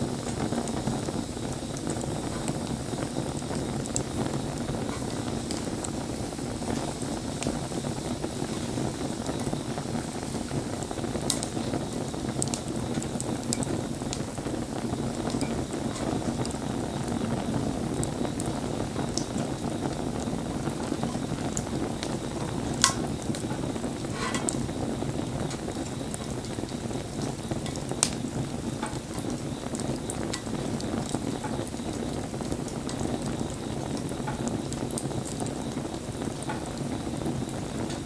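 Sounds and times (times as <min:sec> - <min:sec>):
burning wood popping: 0:00.0 - 0:38.0
campfire crackling: 0:00.0 - 0:38.0.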